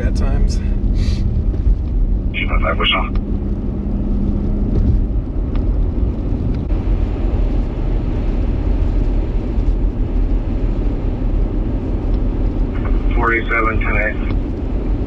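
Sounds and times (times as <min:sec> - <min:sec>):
blizzard wind on microphone: 0:00.0 - 0:15.0
low hum: 0:00.0 - 0:15.0.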